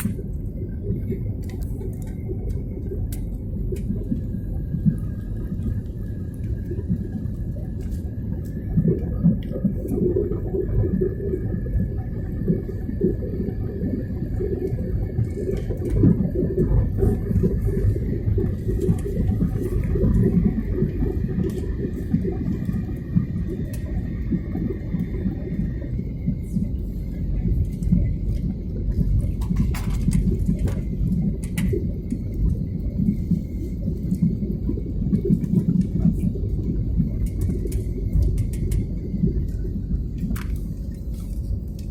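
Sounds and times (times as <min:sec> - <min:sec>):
aircraft cabin engine rumble: 0:00.0 - 0:41.9
faint high steady whine: 0:00.0 - 0:41.9.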